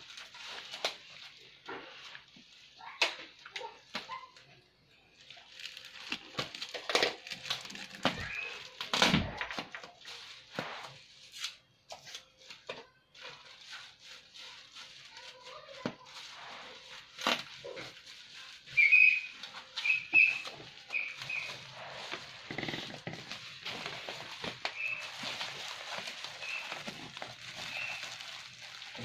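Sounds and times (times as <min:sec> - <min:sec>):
bubble wrap crinkling: 0:00.0 - 0:29.0.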